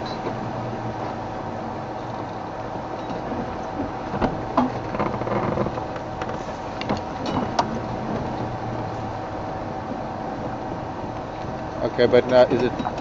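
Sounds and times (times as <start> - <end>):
vehicle knocks and rattles: 0.0 - 9.0, 9.7 - 13.0.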